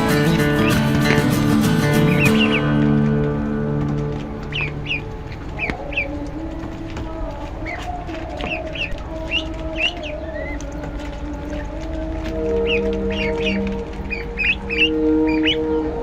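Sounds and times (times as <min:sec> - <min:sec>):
ducklings peeping: 0:00.0 - 0:02.8, 0:03.9 - 0:16.0.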